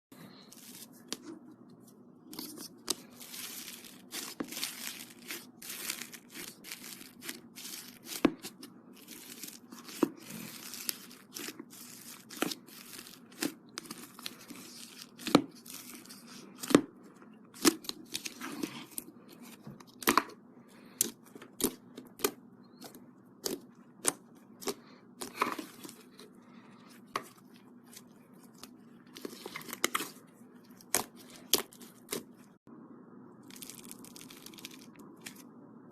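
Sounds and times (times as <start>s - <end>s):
crunchy slime being kneaded: 2.3s - 32.6s, 33.4s - 35.5s.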